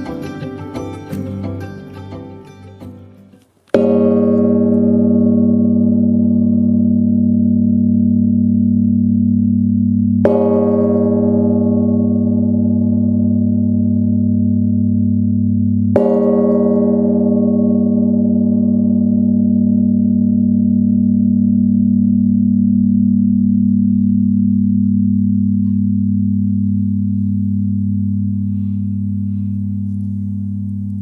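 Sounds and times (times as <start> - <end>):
church bell ringing: 0.0 - 9.0, 10.2 - 15.2, 15.9 - 29.9.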